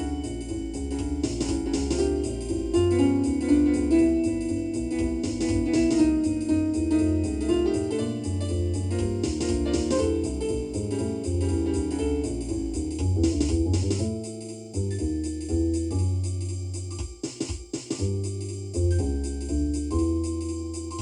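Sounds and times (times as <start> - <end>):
jazz keyboard chords: 0.0 - 21.0.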